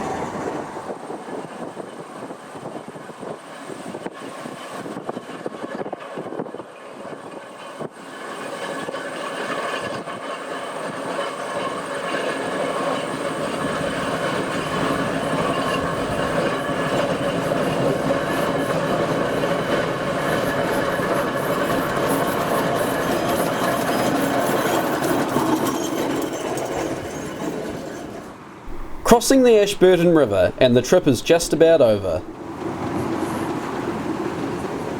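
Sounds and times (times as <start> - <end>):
steam traction engine clattering: 1.0 - 34.9.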